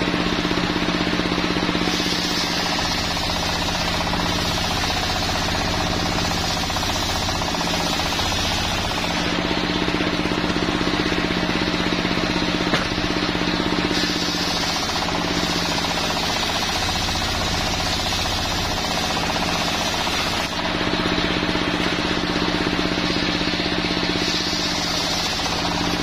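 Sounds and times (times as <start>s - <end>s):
engine running under load: 0.0s - 26.0s
saw blade cutting wood: 1.6s - 11.3s, 12.6s - 20.7s, 21.8s - 26.0s.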